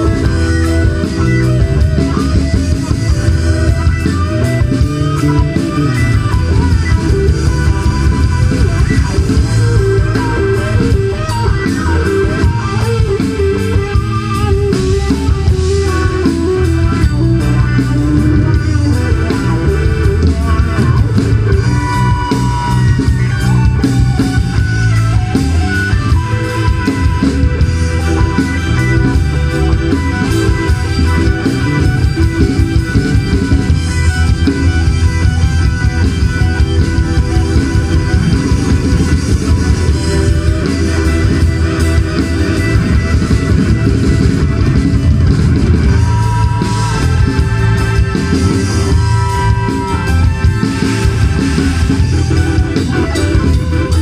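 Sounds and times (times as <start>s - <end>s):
bass guitar: 0.0s - 54.0s
drum kit: 0.0s - 54.0s
electric guitar: 0.0s - 54.0s
keyboard: 0.0s - 54.0s.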